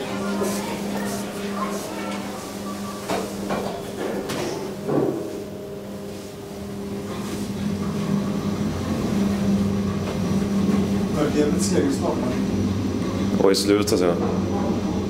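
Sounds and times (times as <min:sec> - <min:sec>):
elevator hum: 0:00.0 - 0:15.0.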